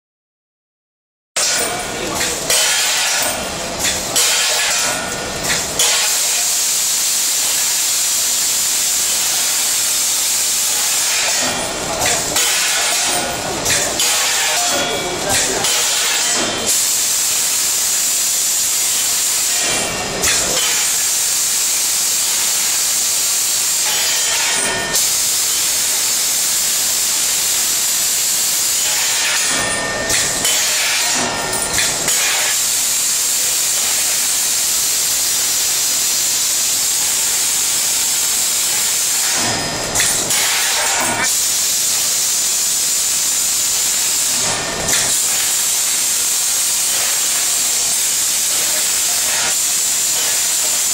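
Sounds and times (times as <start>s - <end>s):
packaging machine hissing: 1.7s - 50.9s.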